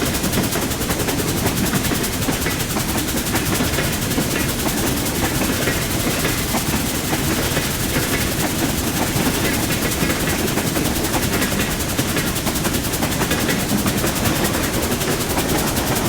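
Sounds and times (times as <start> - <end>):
train rumbling and clattering: 0.0 - 16.0.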